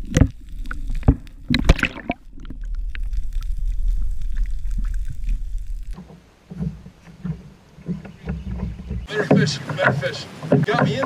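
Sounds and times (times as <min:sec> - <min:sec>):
muffled water sloshing underwater: 0:00.0 - 0:10.7
knocks and splashes: 0:00.0 - 0:11.0
low rumble of water: 0:00.0 - 0:11.0.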